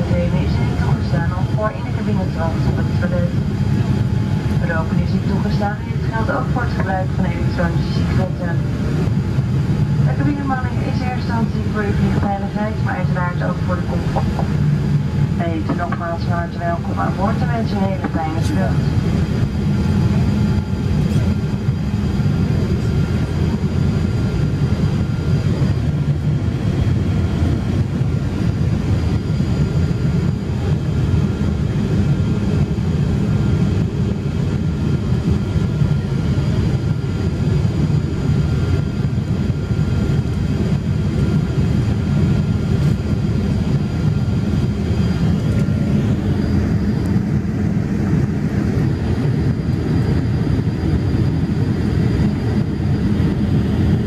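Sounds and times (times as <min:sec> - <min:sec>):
aircraft cabin engine noise: 0:00.0 - 0:54.0
faint steady whine: 0:00.0 - 0:54.0.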